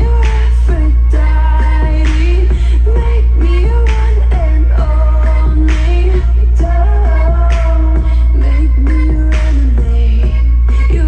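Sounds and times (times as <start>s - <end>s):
song with singing over deep bass: 0.0s - 11.0s.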